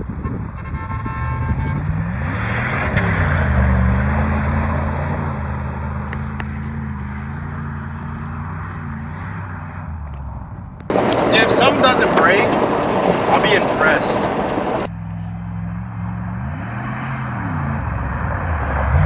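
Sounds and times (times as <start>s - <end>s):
engine revving under load: 1.4s - 10.0s, 10.9s - 19.0s.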